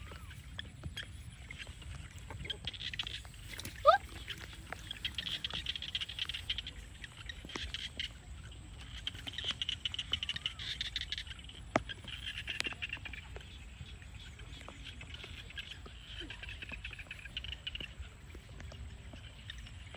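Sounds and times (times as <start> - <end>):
footsteps through wet grass: 0.0 - 19.9
frogs calling: 0.0 - 19.9.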